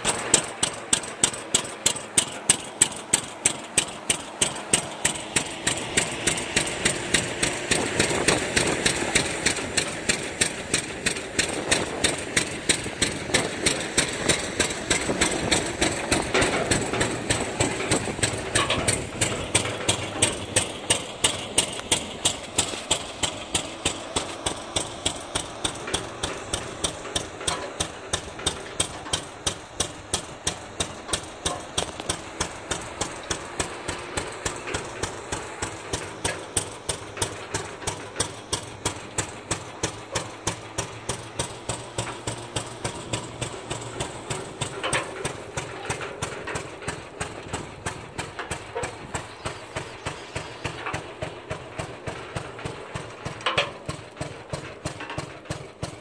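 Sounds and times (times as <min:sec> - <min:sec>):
engine exhaust popping: 0:00.0 - 0:56.0.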